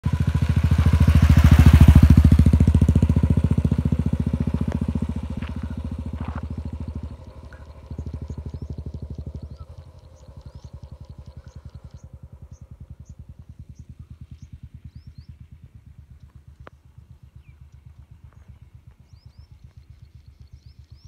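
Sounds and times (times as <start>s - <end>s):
motorcycle engine passing: 0.0s - 21.0s.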